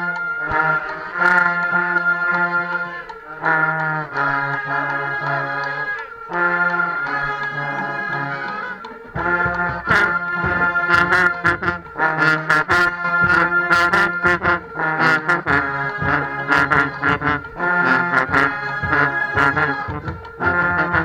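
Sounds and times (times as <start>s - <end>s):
marching band brass: 0.0s - 21.0s.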